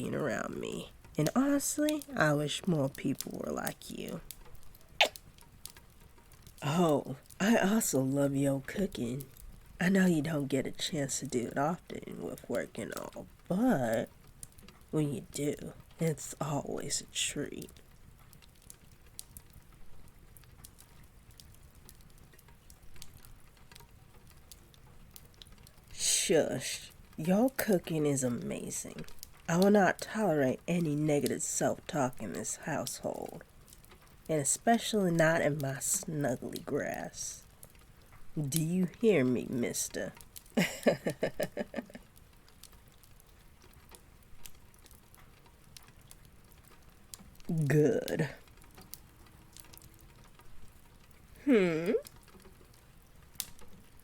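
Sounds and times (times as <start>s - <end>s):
fireplace crackling: 0.0s - 54.0s
rain pattering: 0.0s - 54.0s.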